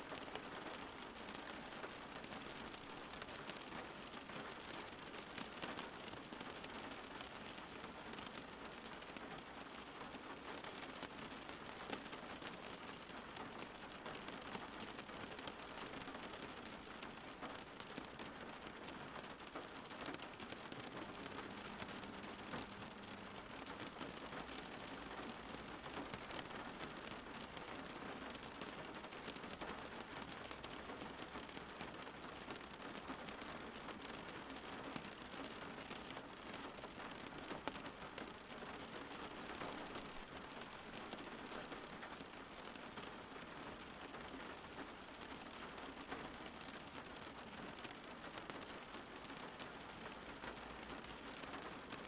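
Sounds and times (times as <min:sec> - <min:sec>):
steady rainfall: 0:00.0 - 0:52.0.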